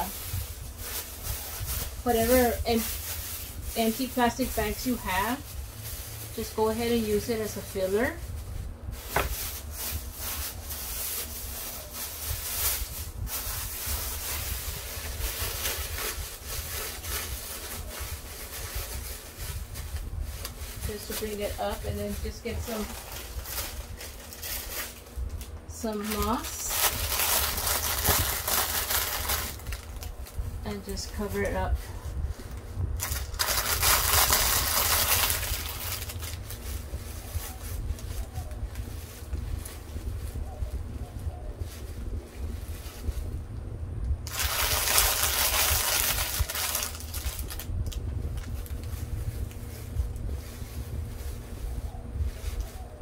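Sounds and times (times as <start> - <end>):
plastic bags crinkling: 0.0 - 40.4, 44.2 - 51.8
dry moss rustling and crunching: 0.0 - 43.4, 44.3 - 53.0
steady low hum: 0.0 - 53.0.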